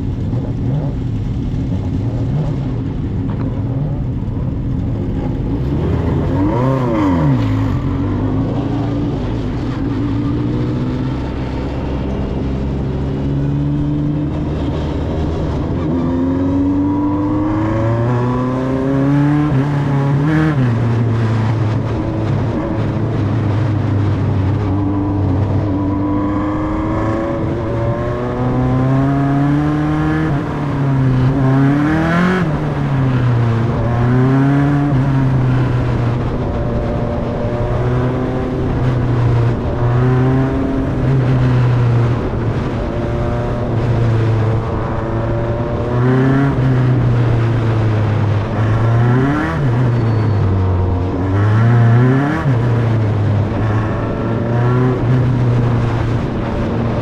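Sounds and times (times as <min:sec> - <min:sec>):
race car engine running: 0:00.0 - 0:57.0.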